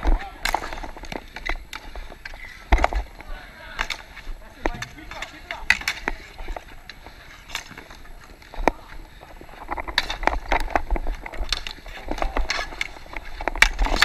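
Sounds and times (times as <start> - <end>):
hockey sticks and ball clacking: 0.0 - 14.0.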